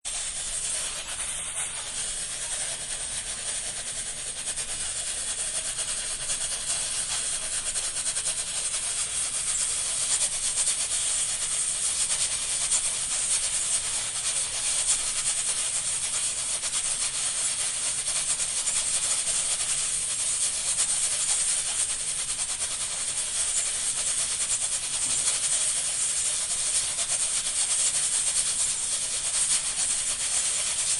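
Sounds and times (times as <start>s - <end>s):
pressure cooker steam hissing: 0.0s - 30.9s.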